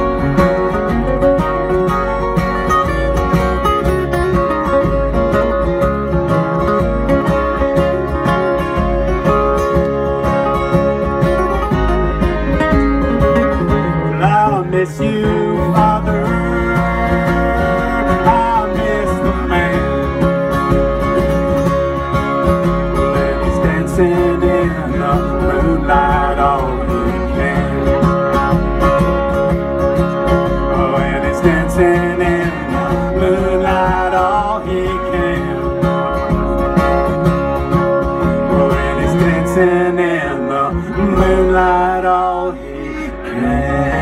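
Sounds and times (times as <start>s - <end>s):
plucked upright bass: 0.0s - 44.0s
strummed acoustic guitar: 0.0s - 44.0s.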